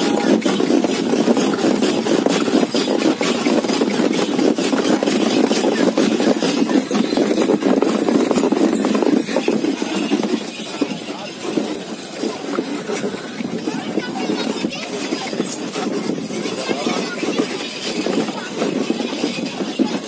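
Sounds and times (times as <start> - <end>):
cart rumbling and rattling: 0.0 - 20.0
rapid clicking from cart: 0.0 - 20.0.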